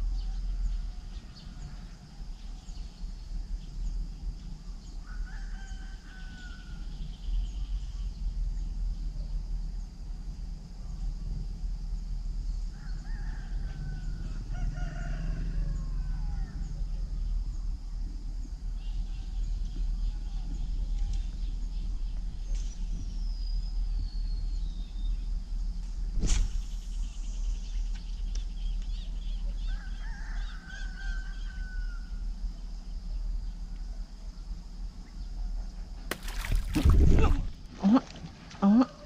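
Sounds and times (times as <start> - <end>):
wind rumble on microphone: 0.0 - 28.8, 35.8 - 38.5.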